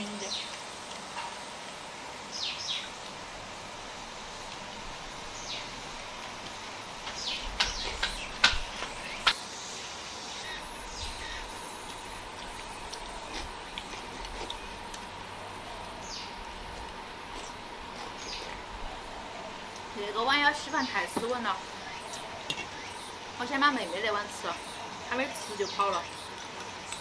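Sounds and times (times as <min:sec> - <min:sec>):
birds chirping: 0:00.0 - 0:00.6, 0:02.2 - 0:03.1, 0:05.0 - 0:06.2, 0:06.9 - 0:27.0.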